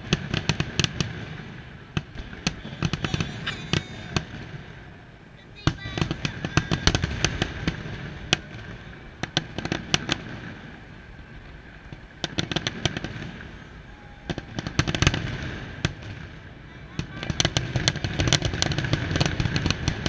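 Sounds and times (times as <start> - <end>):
fireworks cracks and bangs: 0.0 - 20.0.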